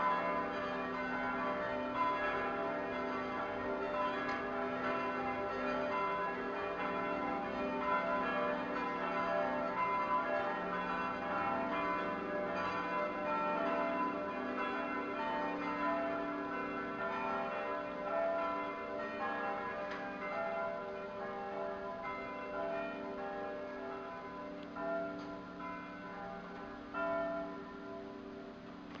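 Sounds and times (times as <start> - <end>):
church bells pealing: 0.0 - 28.9.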